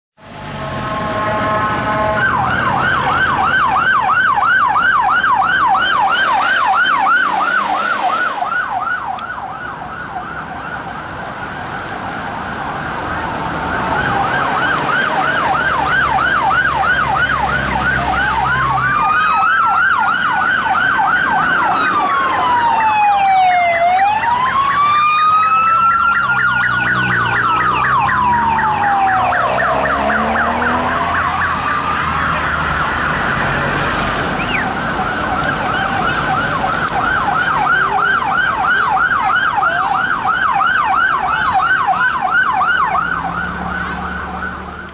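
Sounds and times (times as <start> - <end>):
second siren sweeping: 0.2 - 44.9
siren wail: 0.2 - 44.9
police siren yelp: 0.6 - 44.9.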